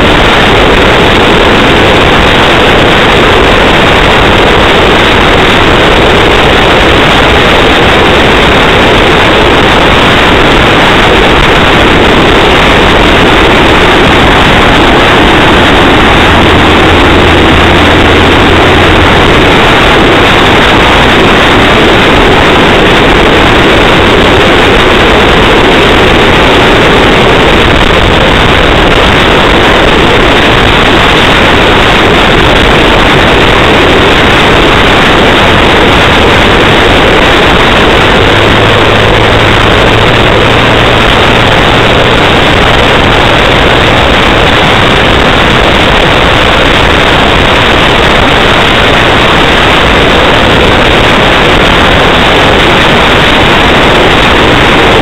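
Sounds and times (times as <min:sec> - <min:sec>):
car road and engine noise: 0:00.0 - 0:55.0
low hum: 0:00.0 - 0:55.0.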